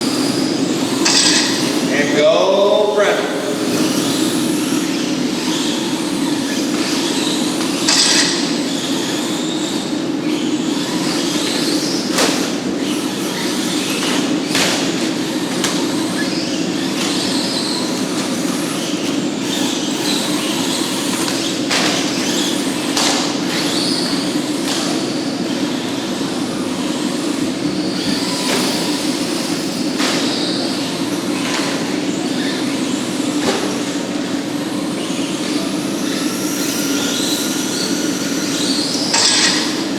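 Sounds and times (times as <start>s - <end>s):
remote-control trucks racing: 0.0s - 2.1s, 3.1s - 39.9s.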